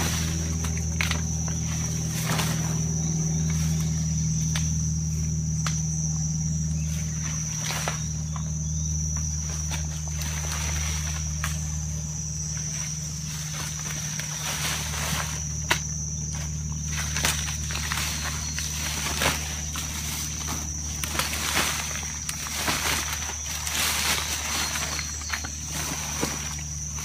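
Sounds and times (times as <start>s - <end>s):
insect trill: 0.0s - 27.0s
low hum: 0.0s - 27.0s.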